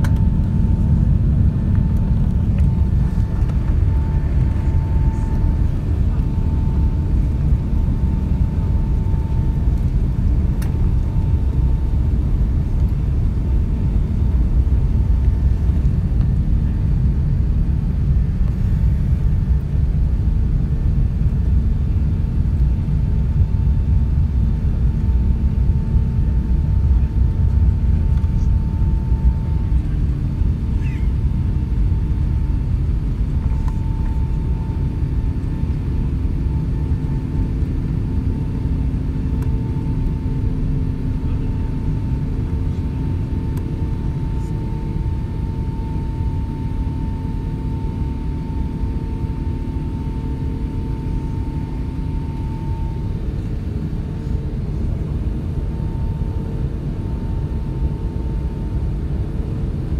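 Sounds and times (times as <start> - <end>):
jet engine and runway rumble: 0.0 - 59.9.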